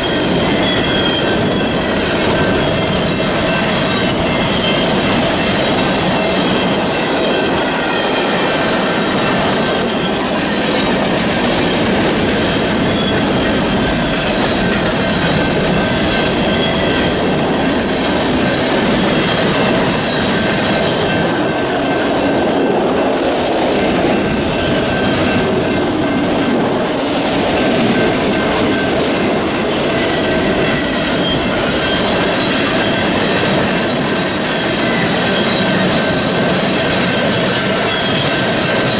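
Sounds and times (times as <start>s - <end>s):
freight train wheels rumbling: 0.0s - 38.9s
high wheel squeal: 0.0s - 38.9s.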